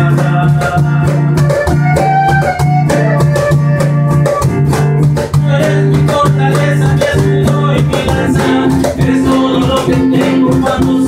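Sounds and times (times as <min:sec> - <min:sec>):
latin ballad band music: 0:00.0 - 0:11.0.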